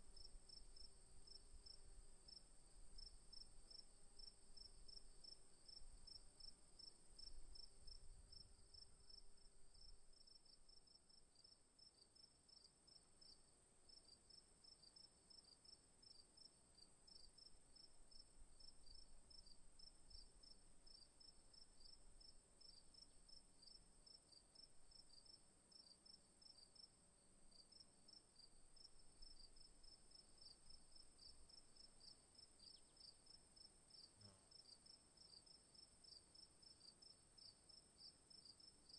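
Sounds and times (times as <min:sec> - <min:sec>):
crickets chirping: 0:00.2 - 0:38.9.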